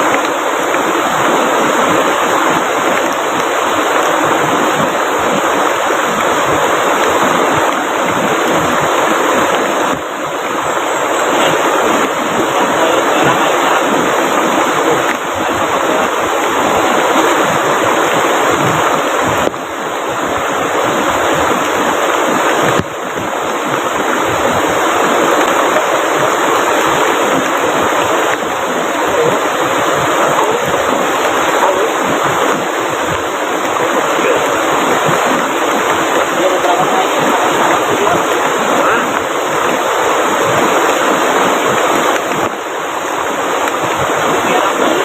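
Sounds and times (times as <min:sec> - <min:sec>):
heavy rainfall: 0:00.0 - 0:45.0
river water rushing: 0:00.0 - 0:45.0.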